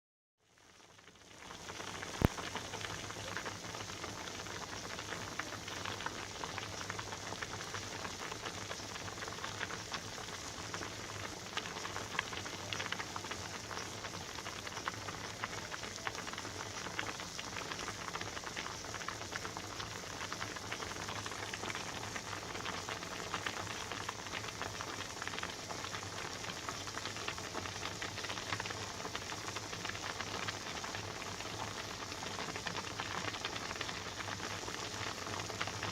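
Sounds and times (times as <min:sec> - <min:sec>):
water boiling and bubbling: 0:00.4 - 0:35.9.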